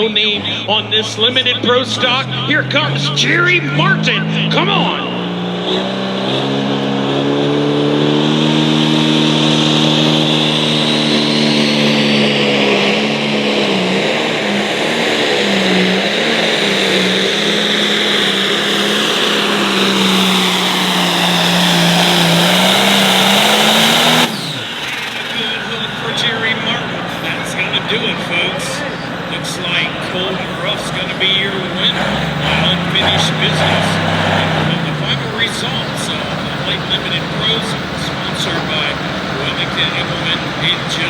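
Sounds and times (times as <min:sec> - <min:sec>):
tractor diesel engine running hard: 0:00.0 - 0:41.0.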